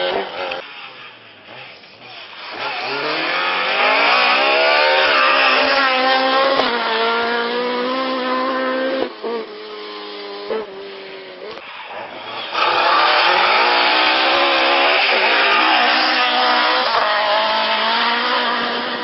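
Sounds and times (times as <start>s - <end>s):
rally car engine at full throttle: 0.0s - 19.0s.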